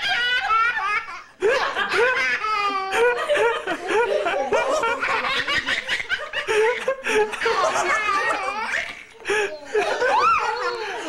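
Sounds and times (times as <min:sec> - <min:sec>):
baby laughing: 0:00.0 - 0:11.0.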